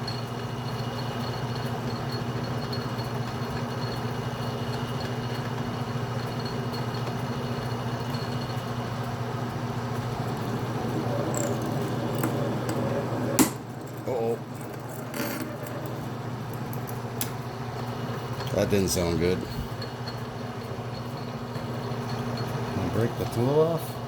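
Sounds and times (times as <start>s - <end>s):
metal lathe running: 0.3s - 24.0s.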